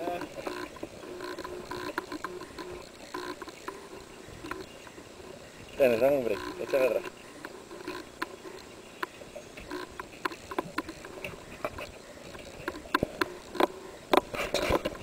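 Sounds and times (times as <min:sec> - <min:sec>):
sharp knocks and clicks: 0:00.1 - 0:03.8, 0:06.0 - 0:15.0.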